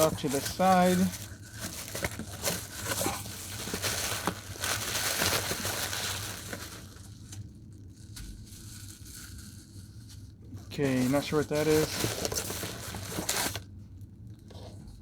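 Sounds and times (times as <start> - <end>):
packaging crinkling and rustling: 0.0 - 13.8.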